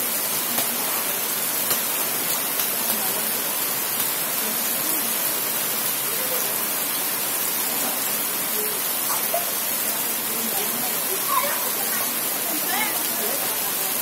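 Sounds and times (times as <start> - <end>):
heavy rain on pavement: 0.0 - 14.0
water drips and splashes: 0.0 - 14.0.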